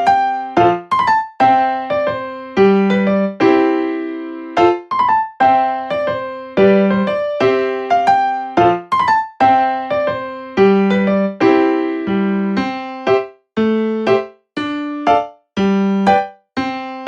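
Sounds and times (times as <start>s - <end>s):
light keyboard tune: 0.0s - 17.0s.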